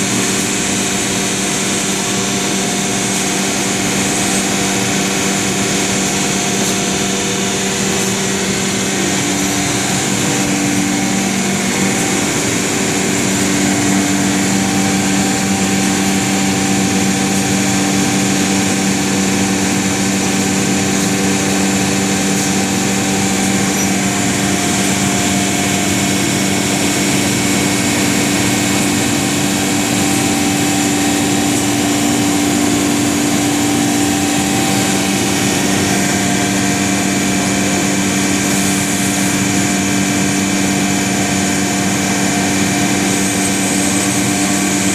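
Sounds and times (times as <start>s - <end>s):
high spindle whine: 0.0s - 44.9s
router machine drone: 0.0s - 44.9s.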